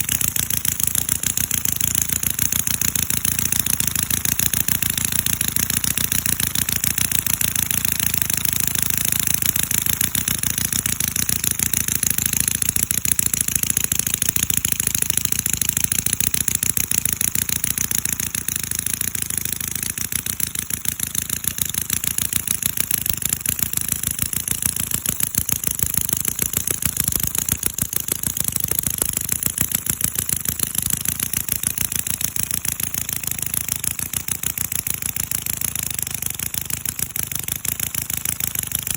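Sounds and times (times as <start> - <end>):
model engine running: 0.0 - 38.9.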